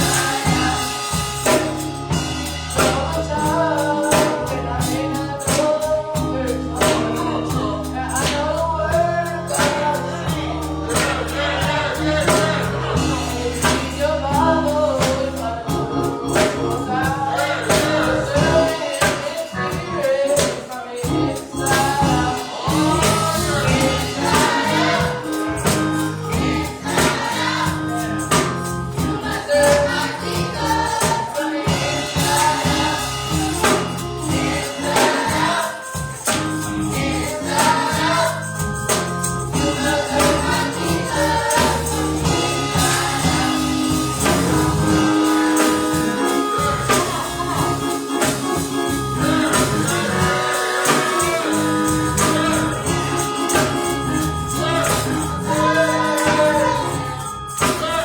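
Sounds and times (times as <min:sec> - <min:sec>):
bass: 0:00.0 - 0:58.0
choir singing gospel music: 0:00.0 - 0:58.0
tambourine: 0:00.0 - 0:58.0.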